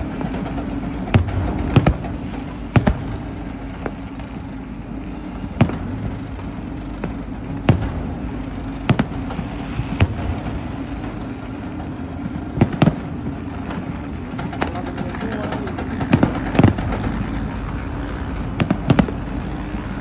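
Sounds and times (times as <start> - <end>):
fireworks bangs: 0.0 - 20.0
steady low hum: 0.0 - 20.0.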